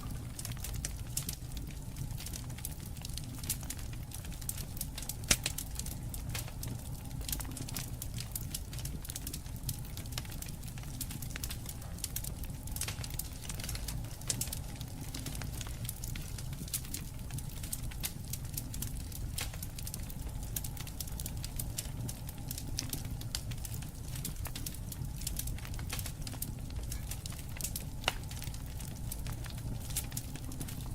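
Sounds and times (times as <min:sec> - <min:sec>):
campfire crackling and popping: 0:00.0 - 0:30.9.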